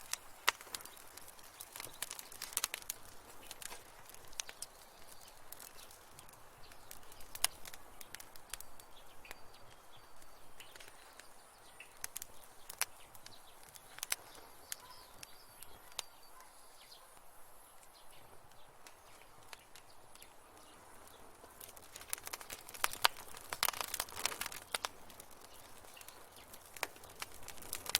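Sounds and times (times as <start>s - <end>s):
soft steady hiss: 0.0s - 27.9s
wood fire crackling and popping: 0.0s - 27.9s.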